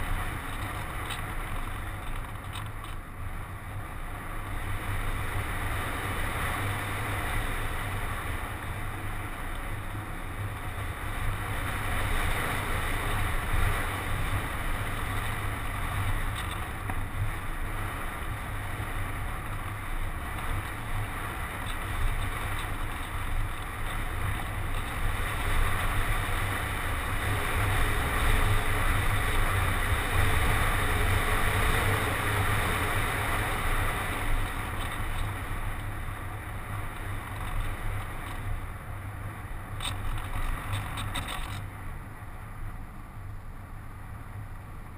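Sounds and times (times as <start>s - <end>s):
wind rushing over camera: 0.0s - 44.9s.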